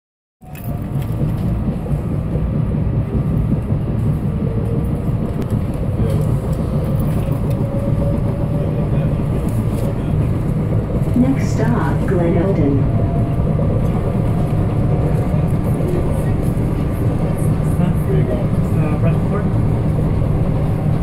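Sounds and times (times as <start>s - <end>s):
train wheels rumbling on rails: 0.4s - 21.0s.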